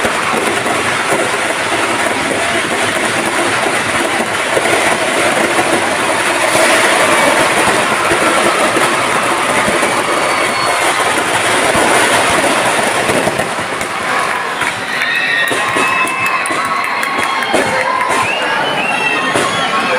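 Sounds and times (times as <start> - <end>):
large crowd cheering: 0.0 - 19.9
voices rising above crowd: 0.0 - 19.9.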